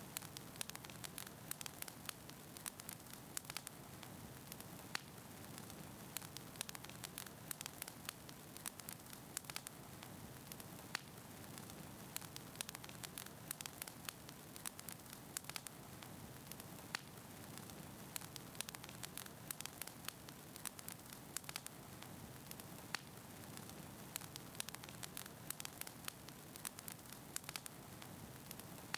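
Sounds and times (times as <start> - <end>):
faint static hiss: 0.0 - 28.9
crackling clicks: 0.1 - 28.9.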